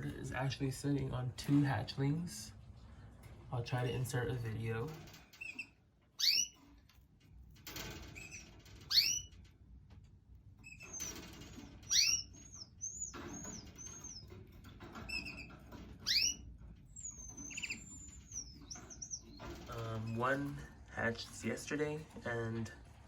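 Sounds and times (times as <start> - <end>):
canaries chirping: 0.0 - 23.0.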